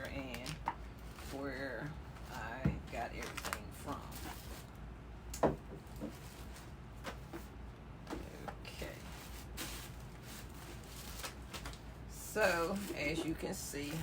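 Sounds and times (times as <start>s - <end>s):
low steady room hum: 0.0s - 14.0s
rustling of objects handled: 0.0s - 14.0s.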